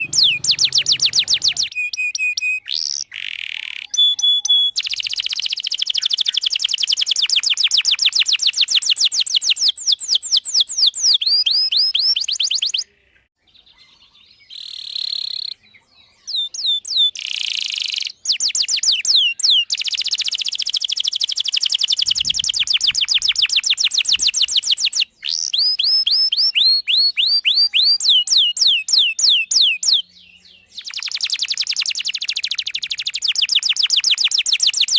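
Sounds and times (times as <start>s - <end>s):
canary singing fast trills: 0.0s - 34.9s.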